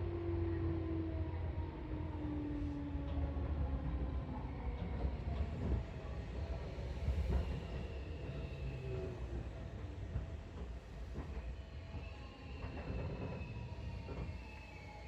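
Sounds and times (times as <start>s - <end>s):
train wheels rumbling on rail: 1.7s - 15.0s.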